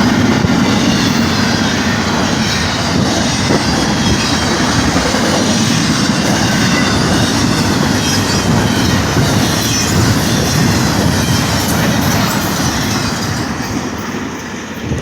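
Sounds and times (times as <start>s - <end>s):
clickety-clack over rail joints: 0.0s - 15.0s
train wheels rumbling: 0.0s - 15.0s.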